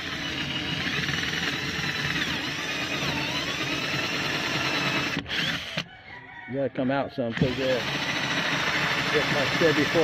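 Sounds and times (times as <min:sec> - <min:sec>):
electric drill boring wood: 0:00.0 - 0:05.9, 0:07.3 - 0:10.0.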